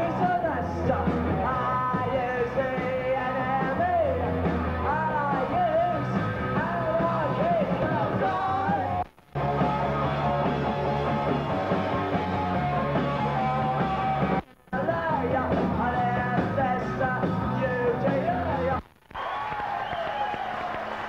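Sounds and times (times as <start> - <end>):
shouted lead vocals: 0.0 - 9.0, 9.6 - 20.6
bass guitar: 0.0 - 19.0
electric guitar: 0.0 - 19.0
drums: 0.0 - 21.0.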